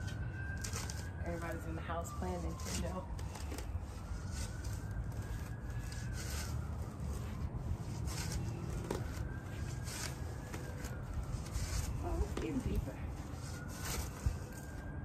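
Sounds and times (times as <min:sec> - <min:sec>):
distant siren: 0:00.0 - 0:15.0.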